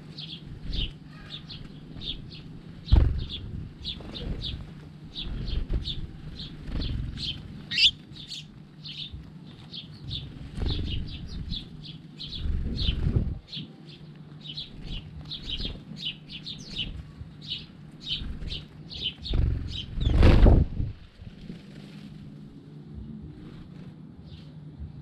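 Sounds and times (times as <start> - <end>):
sparrows chirping: 0.0 - 21.1, 23.0 - 24.8
wings flapping: 0.0 - 22.6.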